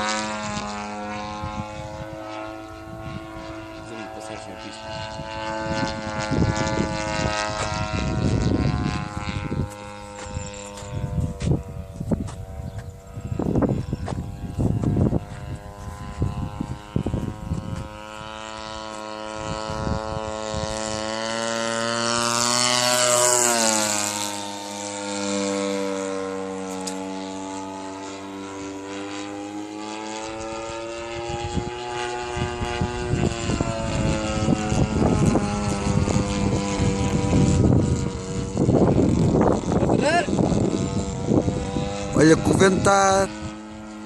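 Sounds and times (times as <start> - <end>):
model plane engine passing: 0.0 - 44.0
wind buffeting microphone: 0.0 - 44.0.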